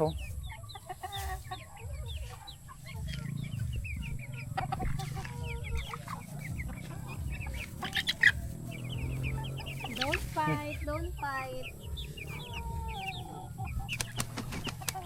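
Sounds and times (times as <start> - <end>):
chicks peeping and chirping: 0.0 - 15.0.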